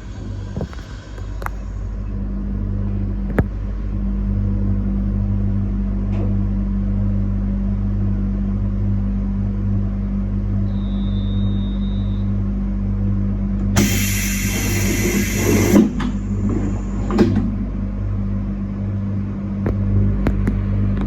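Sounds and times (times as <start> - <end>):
train running low hum: 0.0 - 21.0.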